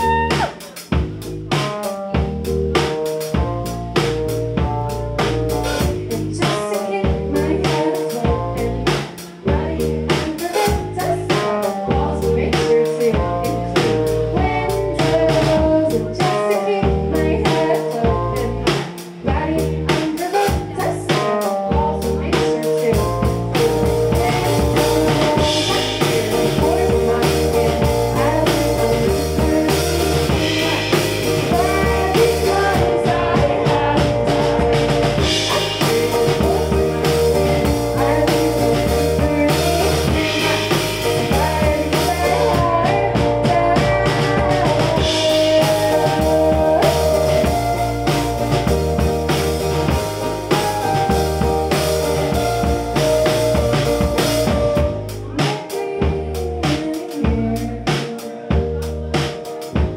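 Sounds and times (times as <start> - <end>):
woman singing: 0.0 - 0.9, 5.7 - 48.8, 50.5 - 59.8
rock band playing: 0.0 - 59.9.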